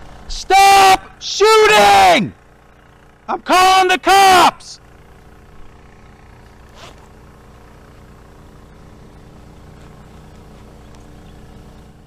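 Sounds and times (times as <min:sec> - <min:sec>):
steady low hum with held tones: 0:00.0 - 0:12.0.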